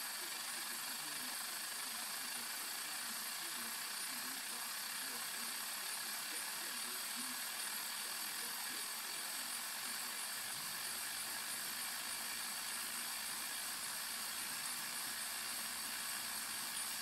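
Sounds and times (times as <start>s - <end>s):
kettle steam hissing: 0.0s - 17.0s.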